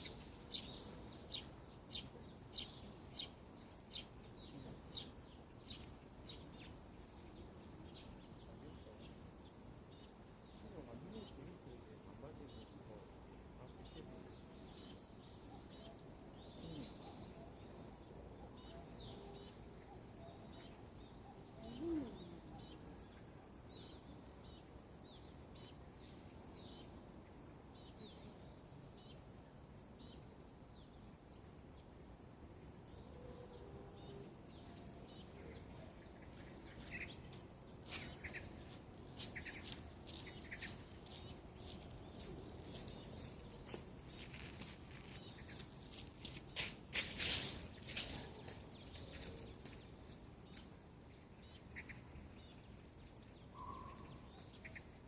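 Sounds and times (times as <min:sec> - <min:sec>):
small birds chirping: 0:00.0 - 0:32.0, 0:32.6 - 0:55.0.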